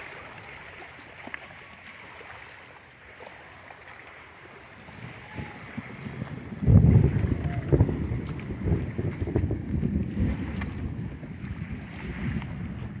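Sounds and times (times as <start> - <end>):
waves washing against shore: 0.0 - 13.0
wind: 0.0 - 13.0.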